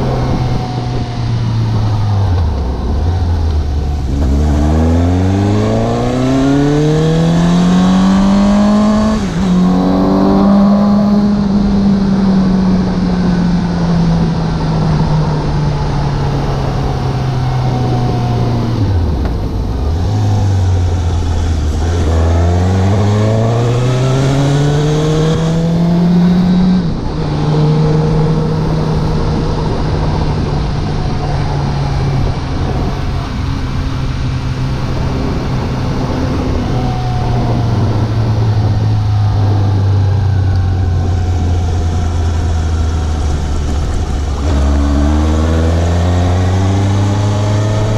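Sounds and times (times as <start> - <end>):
motorcycle engine: 0.0 - 47.9.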